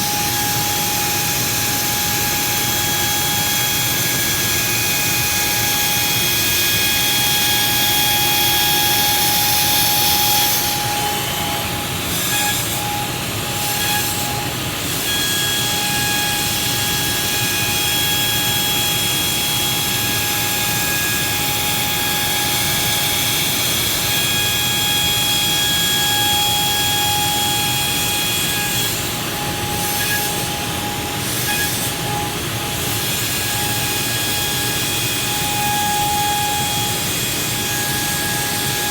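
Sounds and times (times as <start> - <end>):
machine motor whine: 0.0 - 38.9.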